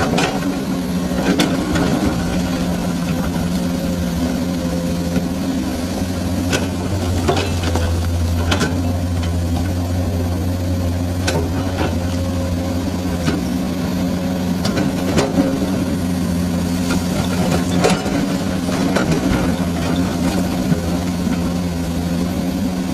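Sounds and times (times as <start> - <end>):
excavator diesel engine running: 0.0 - 22.9.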